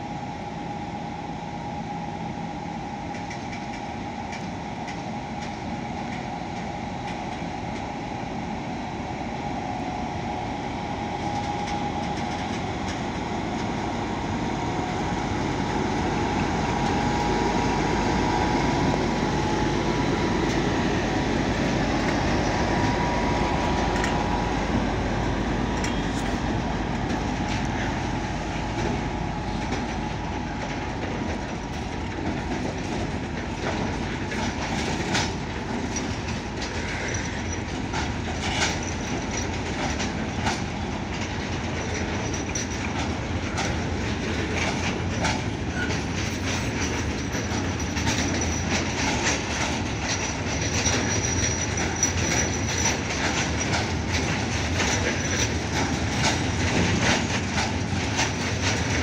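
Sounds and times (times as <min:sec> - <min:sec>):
freight train rumbling past: 0:00.0 - 0:59.0
wheels clacking over rail joints: 0:11.3 - 0:59.0.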